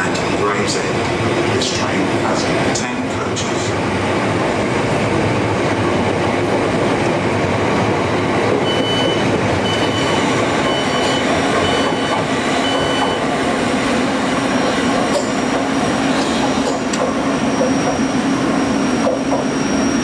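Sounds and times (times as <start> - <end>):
train carriages rumbling past: 0.0 - 20.0.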